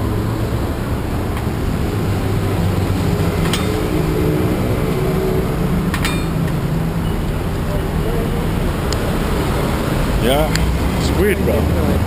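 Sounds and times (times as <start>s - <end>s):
engine humming: 0.0s - 12.0s
traffic rumble: 0.0s - 12.0s.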